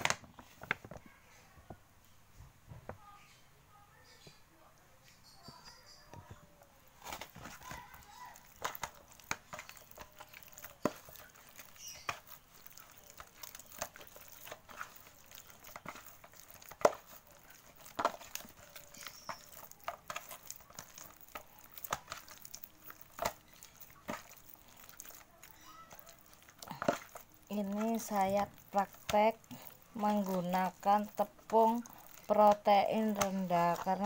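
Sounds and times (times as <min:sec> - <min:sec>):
hands kneading sticky dough: 0:06.2 - 0:34.0.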